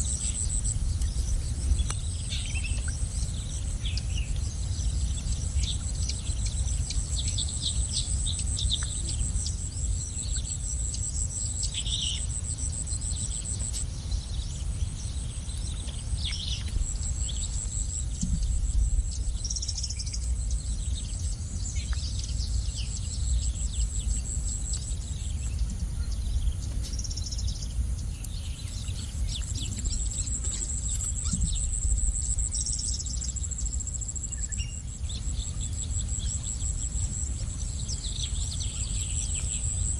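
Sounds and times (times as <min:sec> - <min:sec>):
high-pitched insect trill: 0:00.0 - 0:39.9
low steady rumble: 0:00.0 - 0:39.9
small birds chirping: 0:00.0 - 0:39.9.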